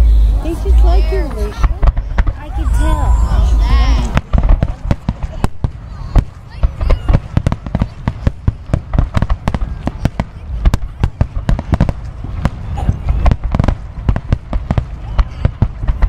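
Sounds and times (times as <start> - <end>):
fireworks booming: 0.0 - 16.0
fireworks cracking: 0.0 - 16.0.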